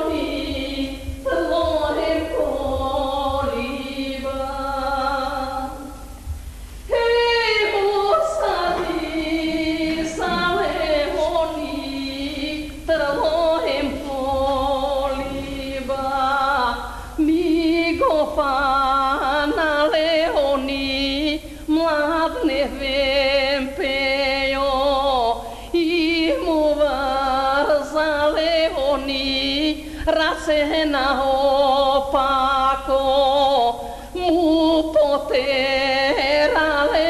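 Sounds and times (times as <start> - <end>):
woman singing folk song: 0.0 - 6.3, 6.9 - 37.0.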